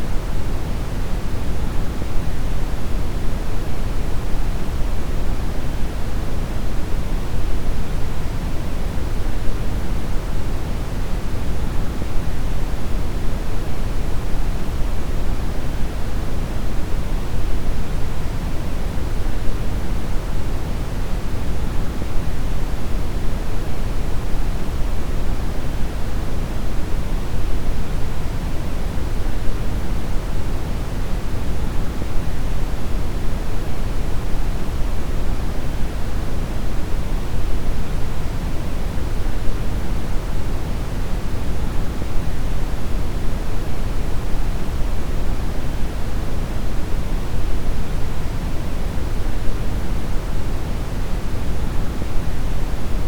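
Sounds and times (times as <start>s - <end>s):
brown noise hiss: 0.0s - 53.0s.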